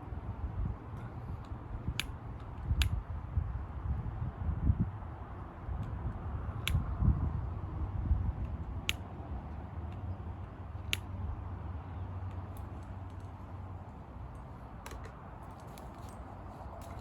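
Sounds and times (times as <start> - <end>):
campfire low rumble: 0.0 - 15.7.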